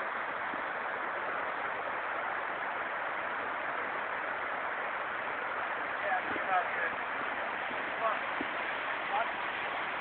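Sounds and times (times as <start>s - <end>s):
creek rushing over rocks: 0.0s - 10.0s.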